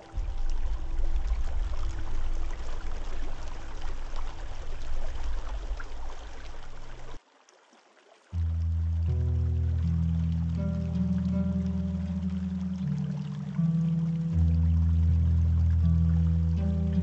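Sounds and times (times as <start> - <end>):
deep low rumble: 0.0 - 7.2, 8.4 - 17.0
water trickling and splashing: 0.0 - 17.0.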